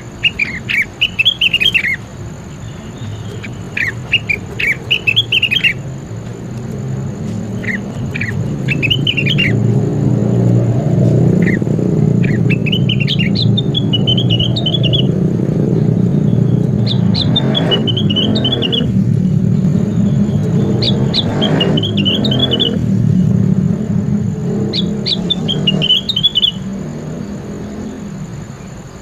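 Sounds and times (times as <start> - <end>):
songbird chirping and warbling: 0.0 - 29.0
steady low rumble: 0.0 - 29.0.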